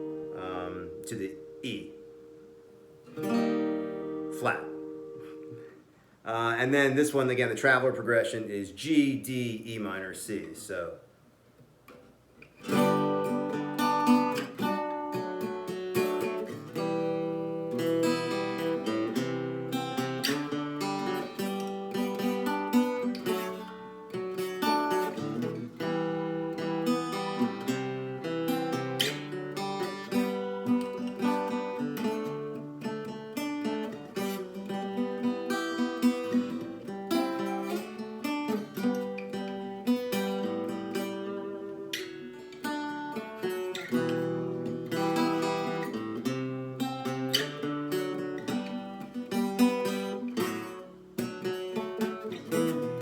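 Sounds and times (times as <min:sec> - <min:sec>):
acoustic guitar chords: 0:00.0 - 0:11.2, 0:11.8 - 0:53.0.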